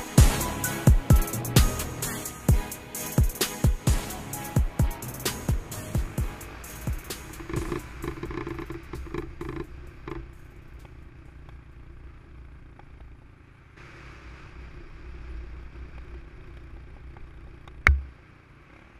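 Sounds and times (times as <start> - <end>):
scooter engine running: 0.0 - 18.9.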